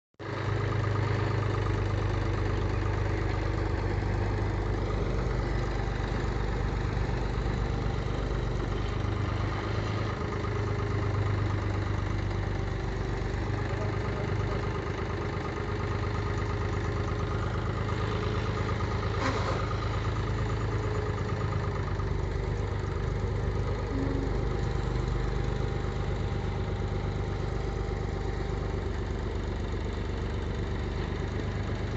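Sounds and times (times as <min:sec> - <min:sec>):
tractor diesel engine running: 0:00.2 - 0:31.9.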